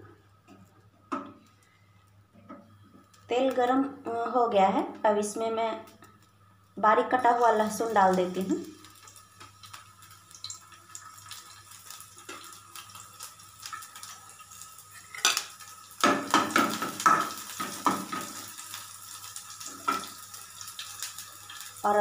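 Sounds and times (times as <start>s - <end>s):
garlic sizzling in hot oil: 2.6s - 22.0s.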